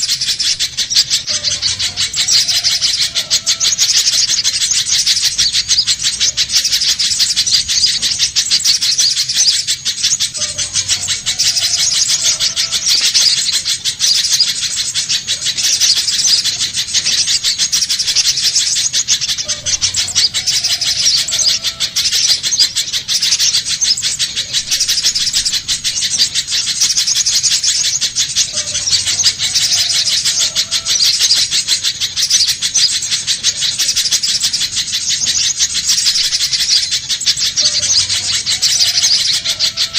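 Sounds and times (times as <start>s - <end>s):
bird rapid high chipping calls: 0.0s - 39.9s.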